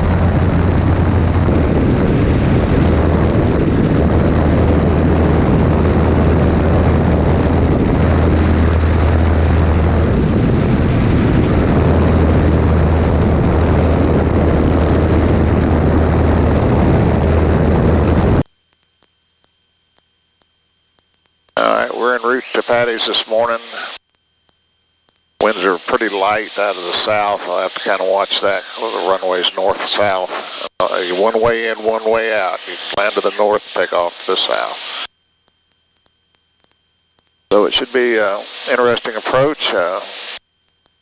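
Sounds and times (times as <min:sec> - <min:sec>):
propeller airplane engine droning: 0:00.0 - 0:18.5, 0:21.6 - 0:24.0, 0:25.4 - 0:35.1, 0:37.4 - 0:40.4.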